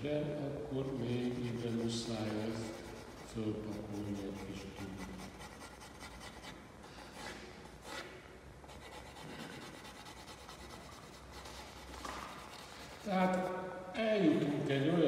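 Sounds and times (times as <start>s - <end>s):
pencil scratching on paper: 0.9s - 13.4s.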